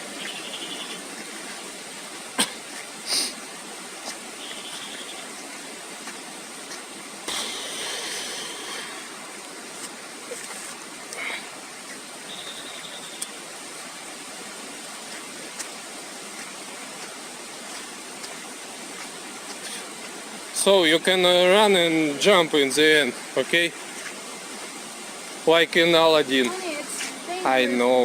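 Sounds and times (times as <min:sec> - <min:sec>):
waterfall water rushing: 0:00.0 - 0:28.0.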